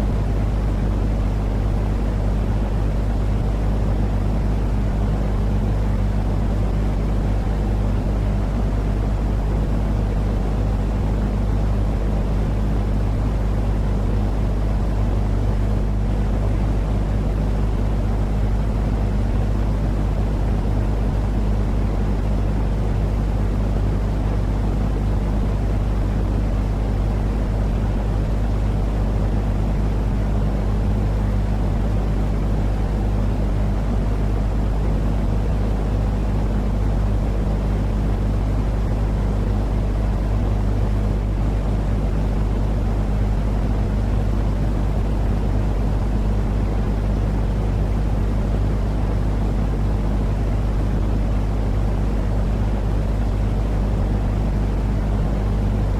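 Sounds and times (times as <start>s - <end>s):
deep low hum with hiss: 0.0s - 55.9s.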